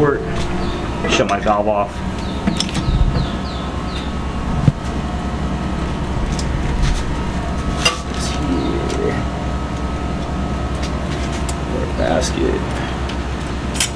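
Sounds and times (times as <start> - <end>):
low mechanical hum: 0.0 - 13.9.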